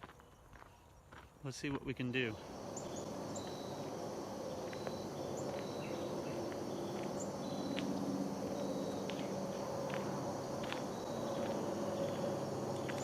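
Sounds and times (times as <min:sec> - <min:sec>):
insect chorus: 0:00.7 - 0:13.0
constant background hum: 0:01.7 - 0:13.0.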